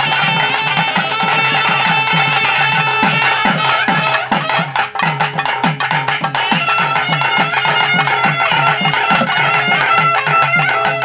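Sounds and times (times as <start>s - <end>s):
barrel drum playing fast rhythm: 0.0s - 11.0s
held melody note: 0.0s - 11.0s.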